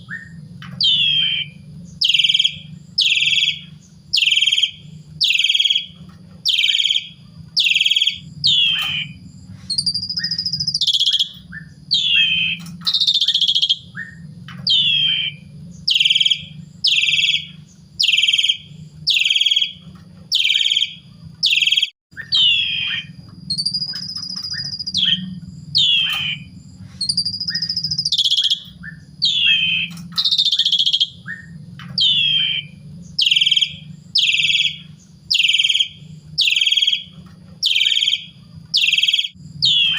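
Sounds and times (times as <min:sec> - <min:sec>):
low hum: 0:00.0 - 0:39.9
starling singing: 0:00.0 - 0:39.9.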